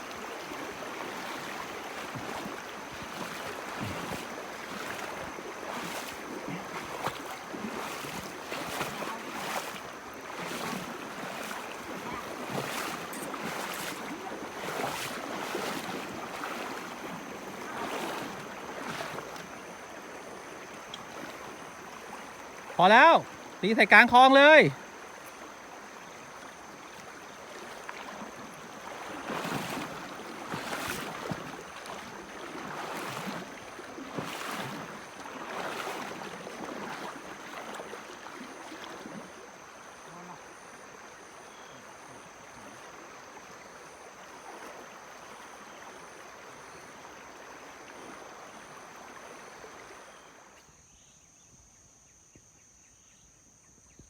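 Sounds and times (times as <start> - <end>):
creek water rushing: 0.0 - 50.5.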